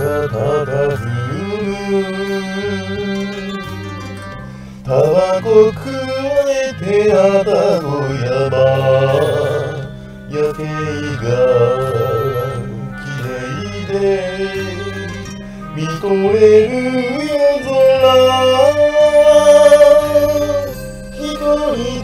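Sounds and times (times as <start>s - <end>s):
instrumental accompaniment: 0.0s - 22.0s
person singing: 0.0s - 22.0s
steady bass line: 0.0s - 22.0s.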